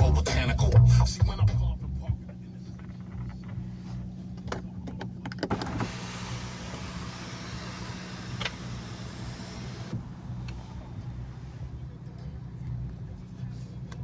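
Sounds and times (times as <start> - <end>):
car engine and road hum: 0.0 - 14.0.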